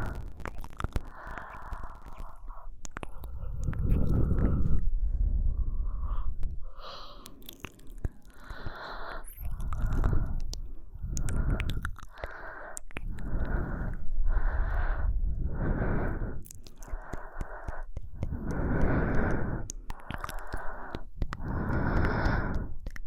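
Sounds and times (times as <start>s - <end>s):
faint mouth clicks: 0.0s - 4.9s, 6.0s - 23.0s
woman breathing slowly: 0.0s - 23.0s.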